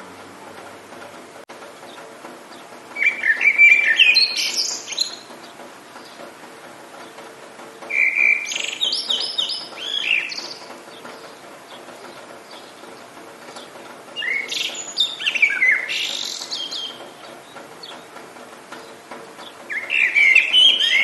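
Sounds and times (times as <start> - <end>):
steady background hiss: 0.0 - 21.0
songbird singing: 1.7 - 21.0.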